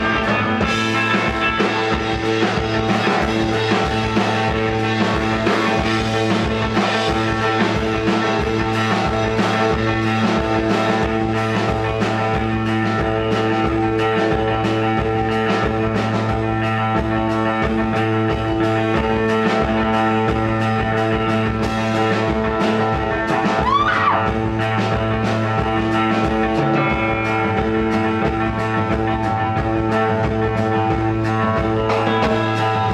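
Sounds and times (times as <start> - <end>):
bass guitar: 0.0 - 32.9
electric guitars: 0.0 - 32.9
steady drum beat: 0.0 - 32.9.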